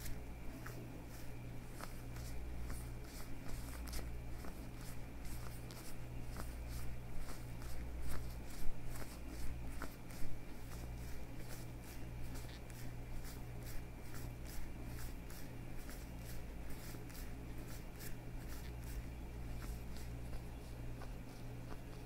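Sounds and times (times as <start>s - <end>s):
leather gloves rubbing and crackling: 0.0s - 22.0s
low steady hum: 0.0s - 22.0s.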